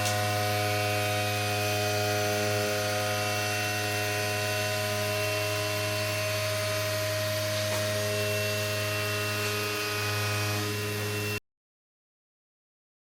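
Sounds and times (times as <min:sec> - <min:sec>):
machine tool humming: 0:00.0 - 0:11.4.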